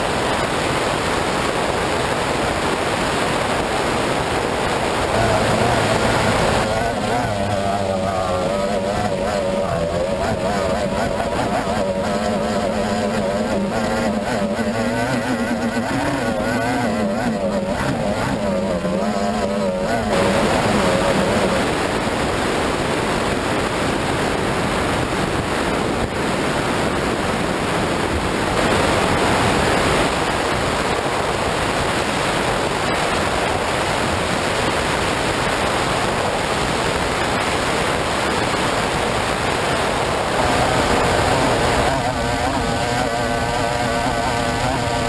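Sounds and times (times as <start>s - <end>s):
boat engine: 0.0s - 45.0s
rush of wind and water: 0.0s - 45.0s.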